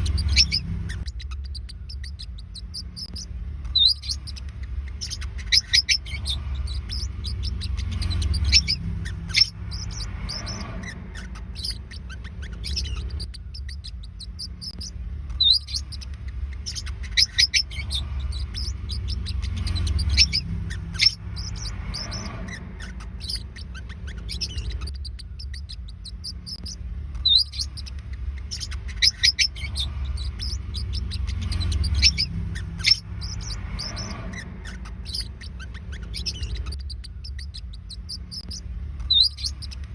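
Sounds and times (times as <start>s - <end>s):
parrotlets chirping: 0.0s - 39.9s
steady low hum: 0.0s - 39.9s.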